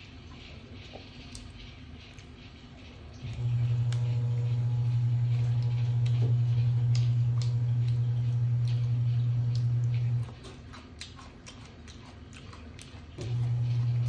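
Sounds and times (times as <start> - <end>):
low mechanical hum: 0.0 - 14.0
crunchy chewing: 0.2 - 14.0.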